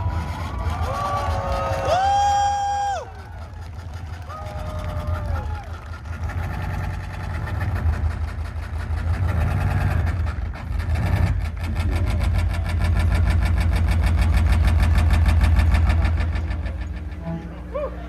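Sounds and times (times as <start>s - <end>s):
heavy low drone: 0.0s - 18.0s.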